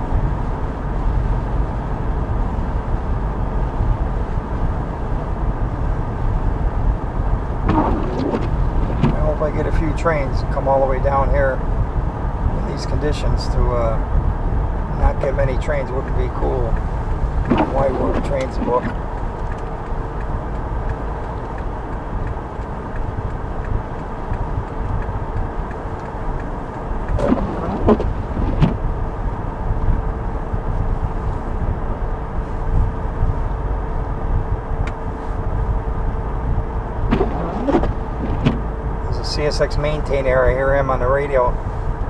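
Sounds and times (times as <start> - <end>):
tyres and engine rumble: 0.0 - 42.0.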